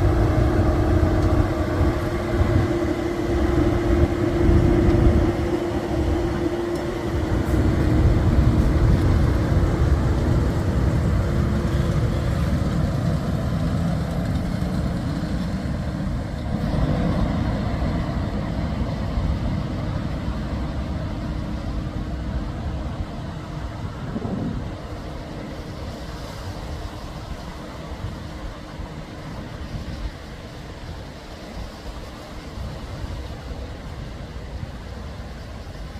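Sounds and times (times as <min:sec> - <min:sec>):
train rumbling past: 0:00.0 - 0:35.9.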